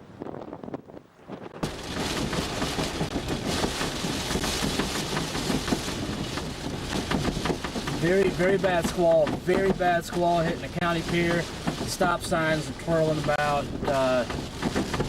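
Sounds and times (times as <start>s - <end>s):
wind noise on microphone: 0.0s - 15.0s
rain and debris pelting a truck: 1.5s - 15.0s.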